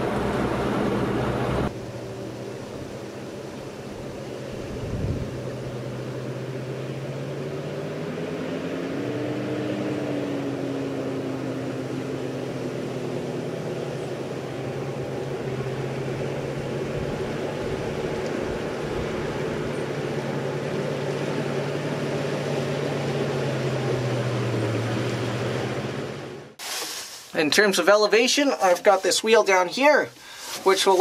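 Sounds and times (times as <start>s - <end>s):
tank engines humming: 0.0s - 26.6s.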